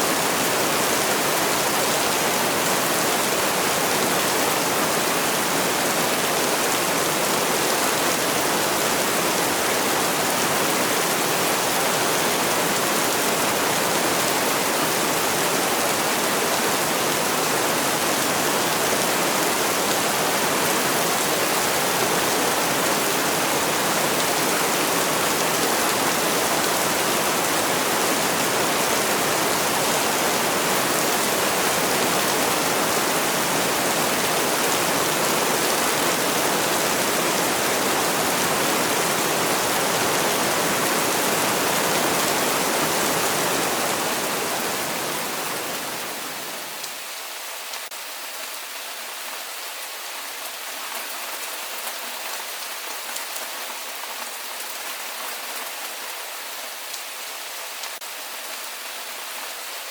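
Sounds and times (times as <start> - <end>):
heavy rain falling: 0.0 - 58.2.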